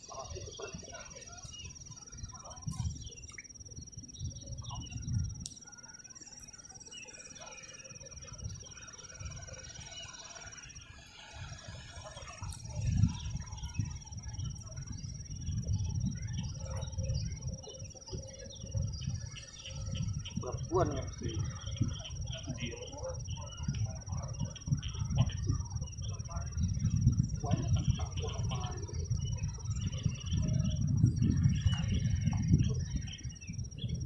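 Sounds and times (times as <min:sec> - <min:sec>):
wind rumbling on microphone: 0:00.0 - 0:05.7, 0:08.1 - 0:34.0
bird chirps: 0:00.0 - 0:34.0
high-pitched insect trill: 0:00.0 - 0:34.0.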